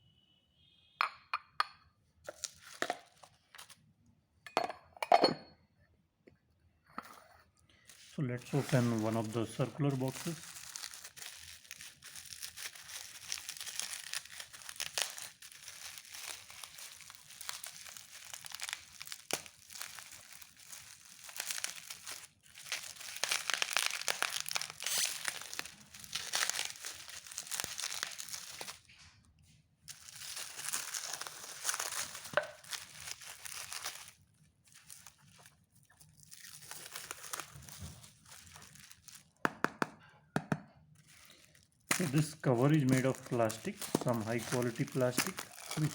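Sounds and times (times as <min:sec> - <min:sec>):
plastic packaging crinkling: 0:02.3 - 0:03.8, 0:07.8 - 0:29.0, 0:29.9 - 0:39.6, 0:40.9 - 0:45.9.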